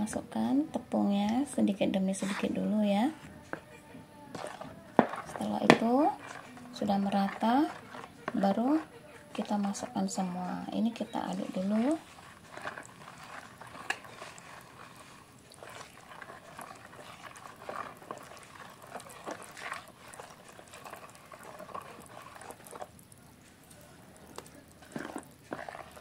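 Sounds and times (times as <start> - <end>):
spatula scraping in plastic bowl: 1.4 - 23.0, 23.7 - 26.0.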